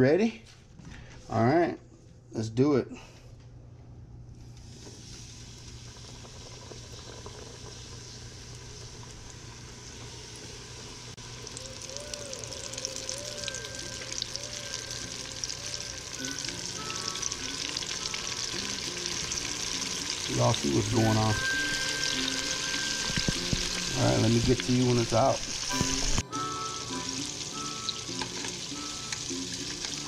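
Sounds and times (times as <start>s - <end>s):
meat sizzling in hot oil: 4.6s - 30.0s.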